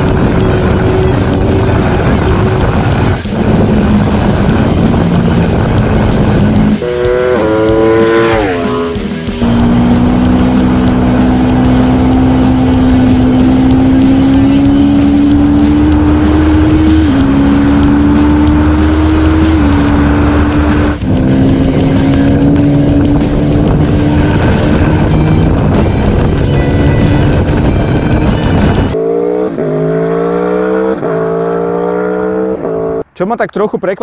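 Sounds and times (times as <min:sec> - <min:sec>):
motorcycle engine accelerating: 0:00.0 - 0:33.1.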